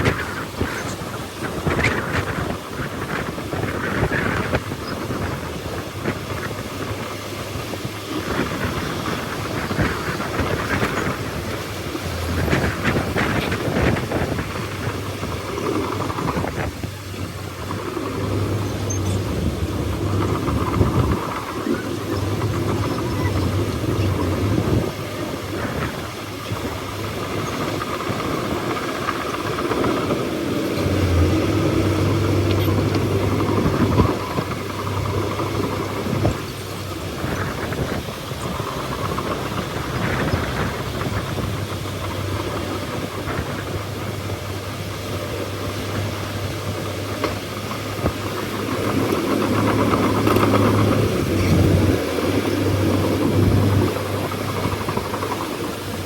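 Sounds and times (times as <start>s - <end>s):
bulldozer diesel engine drone: 0.0s - 56.0s
rattling noise: 0.0s - 56.0s.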